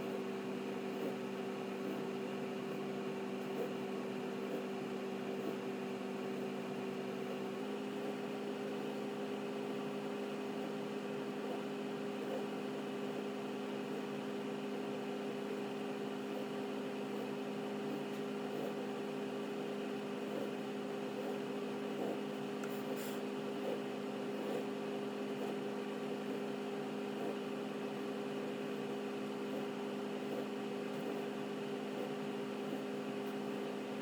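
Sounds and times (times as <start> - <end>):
electrical motor hum: 0.0 - 34.0.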